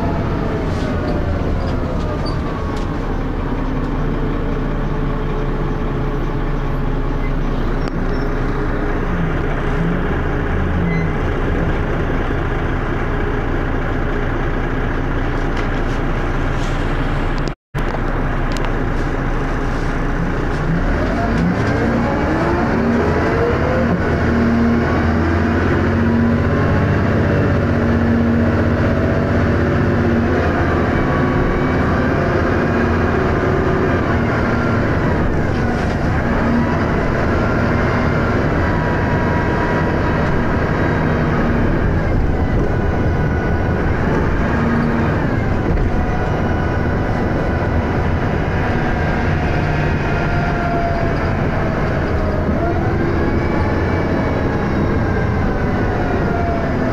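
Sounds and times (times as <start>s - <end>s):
bus engine accelerating: 0.0s - 56.9s.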